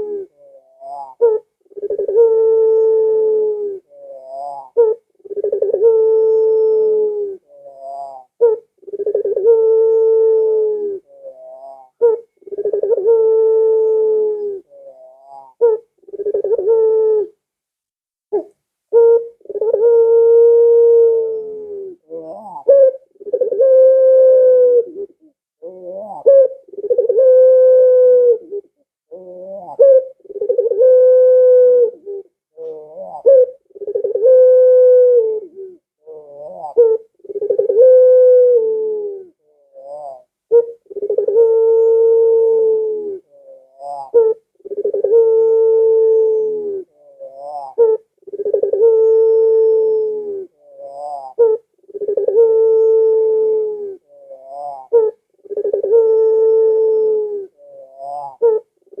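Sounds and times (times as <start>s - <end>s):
dove cooing: 0.0s - 17.4s, 18.3s - 59.0s.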